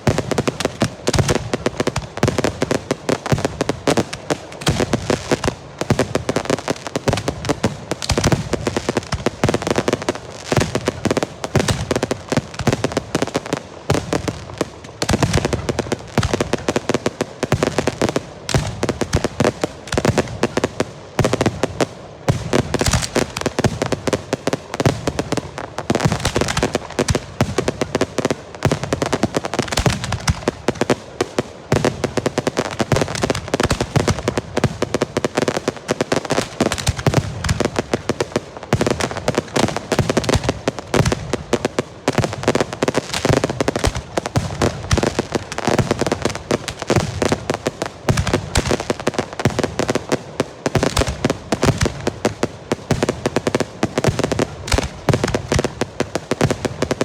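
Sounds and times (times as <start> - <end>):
rapid rattle of firework bangs: 0.0 - 57.0.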